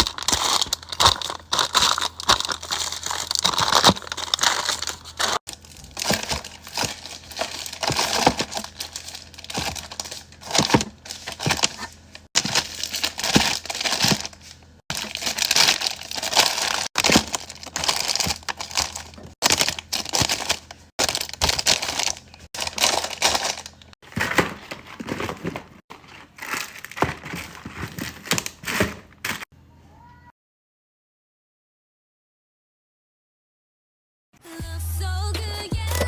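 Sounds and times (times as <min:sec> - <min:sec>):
plastic packaging crinkling: 0:00.0 - 0:29.4.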